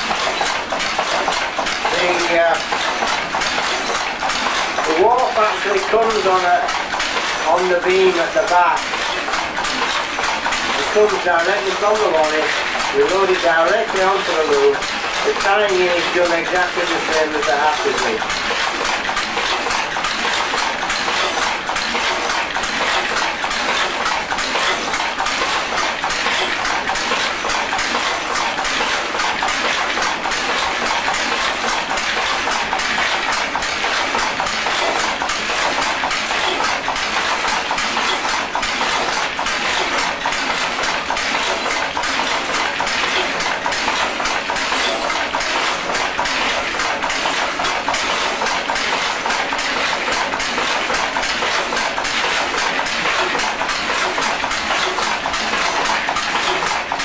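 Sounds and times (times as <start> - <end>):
power loom clattering: 0.0 - 57.0.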